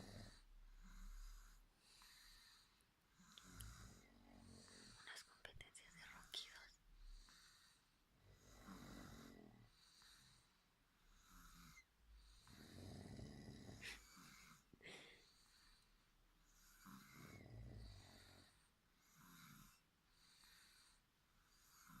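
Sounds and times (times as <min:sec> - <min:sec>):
deep rumbling snore: 0:00.0 - 0:05.2, 0:07.0 - 0:22.0.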